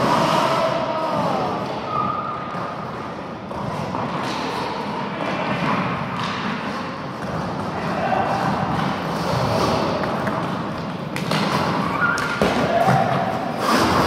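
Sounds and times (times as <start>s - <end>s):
echoing rumble of hockey play: 0.0s - 14.0s.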